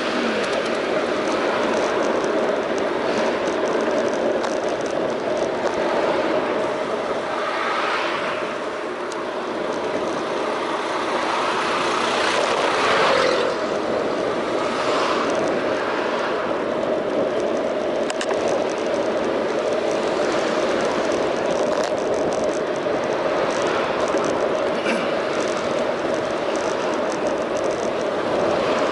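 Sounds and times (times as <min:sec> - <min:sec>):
street traffic noise: 0:00.0 - 0:28.9
vehicles passing: 0:00.0 - 0:28.9
wind on microphone: 0:00.0 - 0:28.9.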